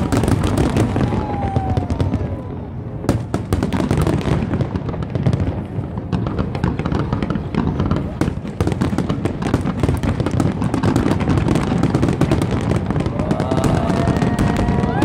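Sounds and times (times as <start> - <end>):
fireworks bursts and crackling: 0.0 - 15.0.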